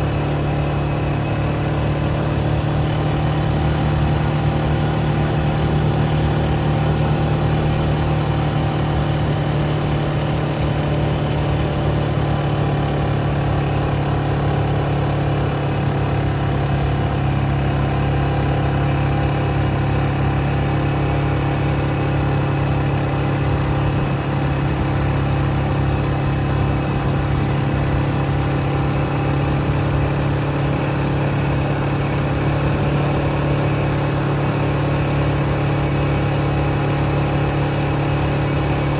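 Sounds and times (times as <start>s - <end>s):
vehicle engine running steadily: 0.0s - 38.9s.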